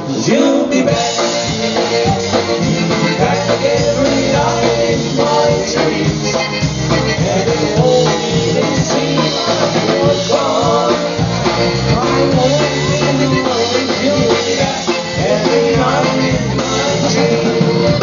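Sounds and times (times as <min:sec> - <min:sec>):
live polka band playing: 0:00.0 - 0:18.0.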